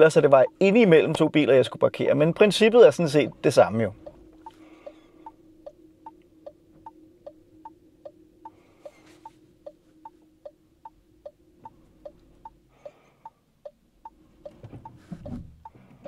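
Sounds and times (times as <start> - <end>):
faint steady hum: 0.0 - 16.0
turn signal ticking: 0.0 - 16.0.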